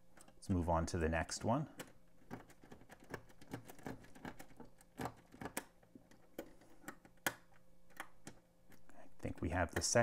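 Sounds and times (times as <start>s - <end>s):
combination lock wheel clicking: 1.4s - 10.0s.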